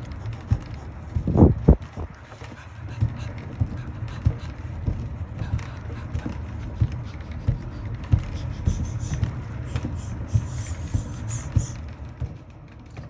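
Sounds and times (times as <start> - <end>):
paw thumps: 0.0 - 12.4
cat exercise wheel rumbling: 0.0 - 13.0.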